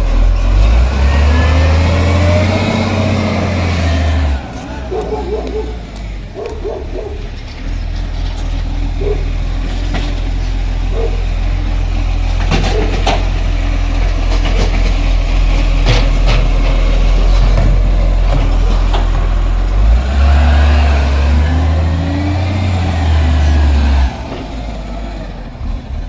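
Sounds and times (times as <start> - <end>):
garbage truck engine rumbling: 0.0 - 26.0.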